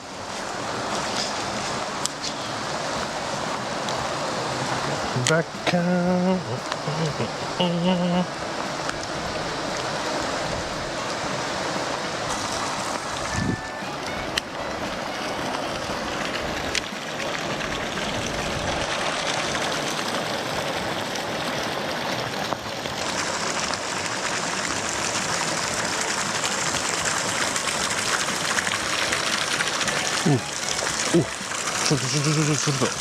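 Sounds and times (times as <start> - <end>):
rushing water: 0.0 - 33.0.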